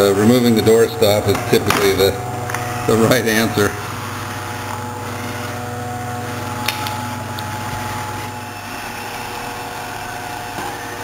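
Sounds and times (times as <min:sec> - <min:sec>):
robot vacuum humming: 0:00.0 - 0:11.0.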